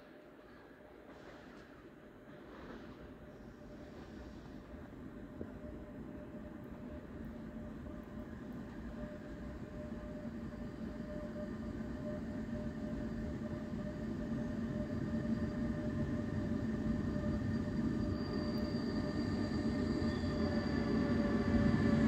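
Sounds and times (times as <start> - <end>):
freight train rumble: 0.0 - 22.0
locomotive hum and whine: 0.0 - 22.0.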